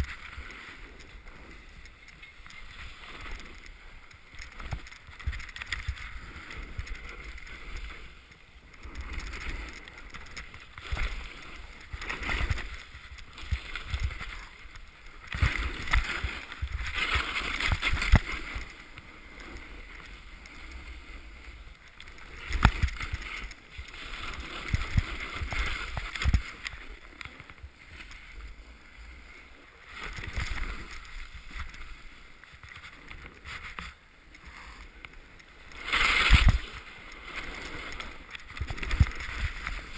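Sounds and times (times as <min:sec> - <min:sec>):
ski edges scraping snow: 0:00.0 - 0:39.9.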